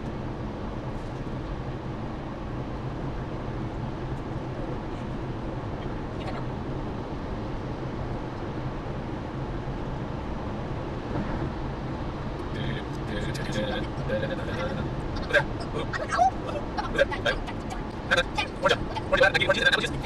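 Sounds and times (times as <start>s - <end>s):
car road noise from inside: 0.0s - 20.0s.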